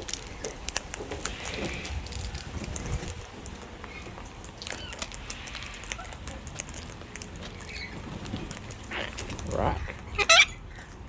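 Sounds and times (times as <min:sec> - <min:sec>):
parrots calling and chattering: 0:00.0 - 0:11.0.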